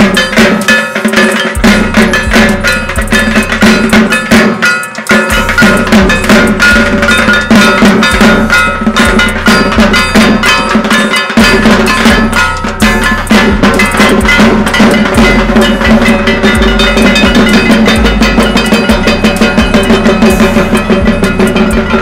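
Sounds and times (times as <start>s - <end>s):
bright metallic clanging: 0.0s - 22.0s
drums beaten fast with sticks: 0.0s - 22.0s.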